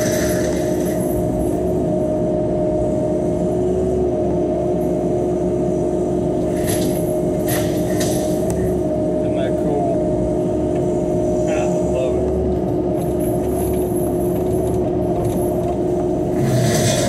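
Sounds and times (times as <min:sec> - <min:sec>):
excavator engine and hydraulics: 0:00.0 - 0:17.0
steady whine: 0:00.0 - 0:17.0.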